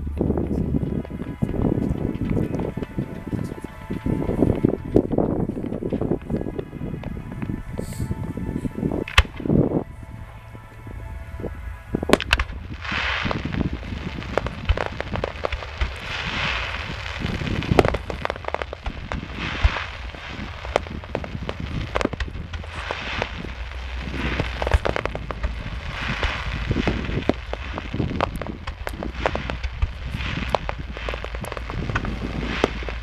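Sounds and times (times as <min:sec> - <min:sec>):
fireworks bangs and cracks: 0:00.0 - 0:07.7, 0:11.9 - 0:33.0
crackling hiss: 0:00.0 - 0:33.0
steady low rumble: 0:00.0 - 0:33.0.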